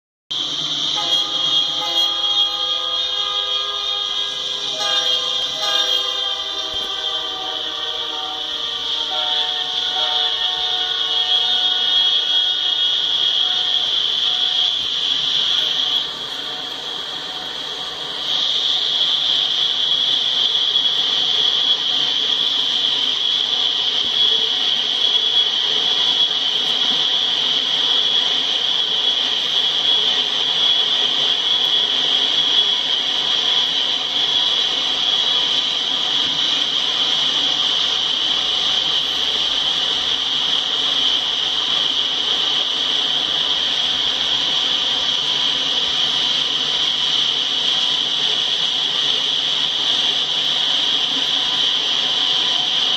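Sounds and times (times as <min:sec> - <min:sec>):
freight train rolling past: 0:00.3 - 0:52.9.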